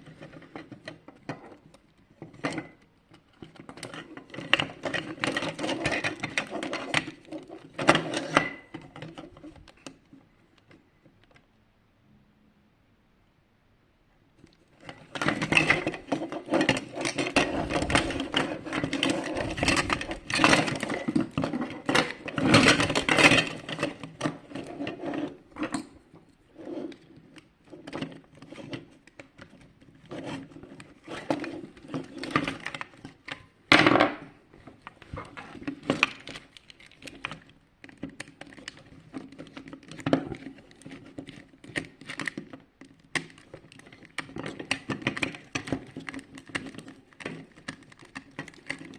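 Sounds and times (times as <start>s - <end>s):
plastic parts clicking and cracking: 0.0s - 11.4s, 14.4s - 26.3s, 26.9s - 48.9s.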